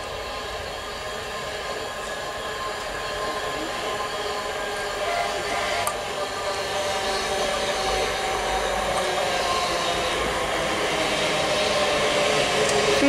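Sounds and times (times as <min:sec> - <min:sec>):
electric passenger train running: 0:00.0 - 0:13.0.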